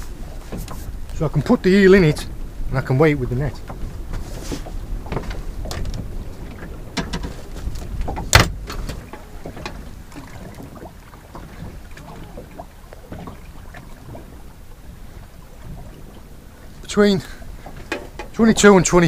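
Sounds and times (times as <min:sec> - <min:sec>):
sea noise: 0:00.0 - 0:19.0
wind: 0:00.0 - 0:19.0.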